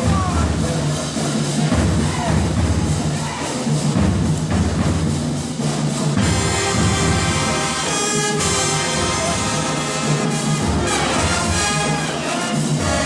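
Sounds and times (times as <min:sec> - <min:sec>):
brass band playing chords: 0:00.0 - 0:13.0.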